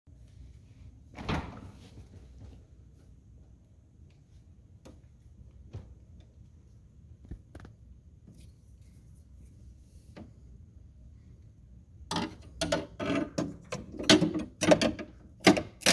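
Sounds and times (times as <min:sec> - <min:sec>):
low steady hum: 0:00.1 - 0:15.9.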